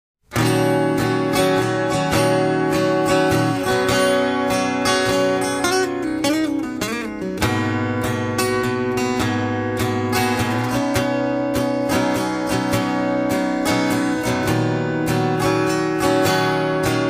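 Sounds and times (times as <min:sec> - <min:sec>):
strummed acoustic guitar music: 0:00.3 - 0:17.0.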